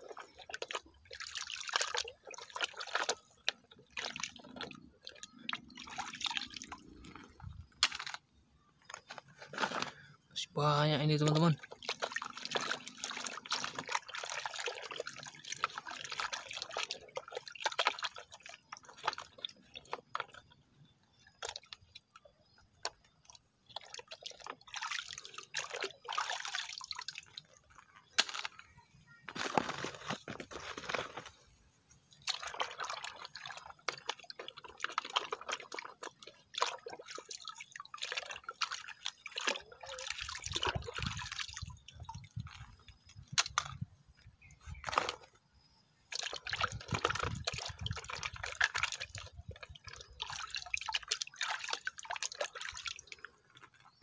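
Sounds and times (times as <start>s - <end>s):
water splashing and dripping: 0.0s - 8.2s, 8.9s - 20.6s, 21.3s - 28.7s, 32.0s - 54.0s.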